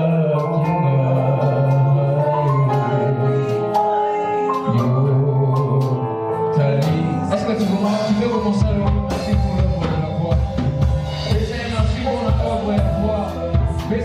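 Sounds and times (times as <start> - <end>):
worship band playing: 0.0 - 14.0.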